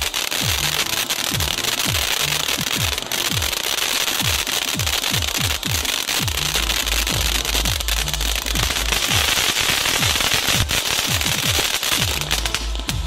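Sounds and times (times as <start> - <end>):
electronic music with bass kicks: 0.0 - 13.0
firework hissing and crackling: 0.0 - 13.0.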